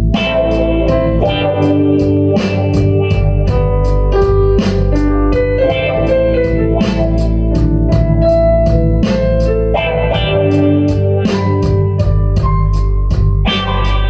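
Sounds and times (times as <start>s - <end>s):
bass: 0.0s - 14.0s
organ keyboard chords: 0.0s - 14.0s
steady drum beat: 0.0s - 14.0s.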